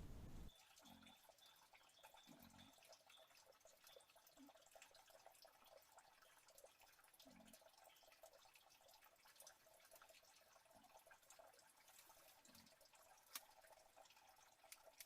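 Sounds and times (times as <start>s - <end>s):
faint trickling and dripping water: 0.0s - 15.0s
small ticks: 0.4s - 15.0s.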